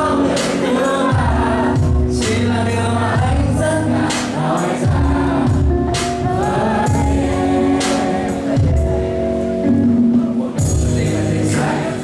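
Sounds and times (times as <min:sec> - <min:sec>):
amplified live pop music: 0:00.0 - 0:12.0.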